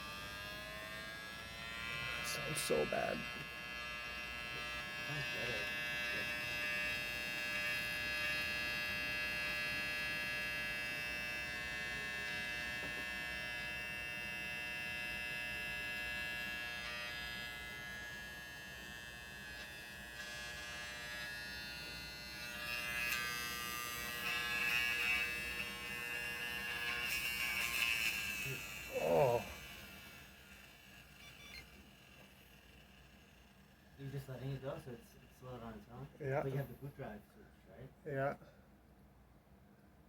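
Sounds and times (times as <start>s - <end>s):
hard drive buzzing whine: 0.0s - 36.6s.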